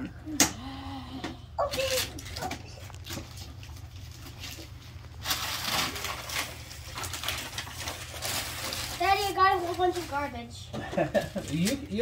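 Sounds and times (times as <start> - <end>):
wrapping paper rustling and tearing: 1.6 - 12.0.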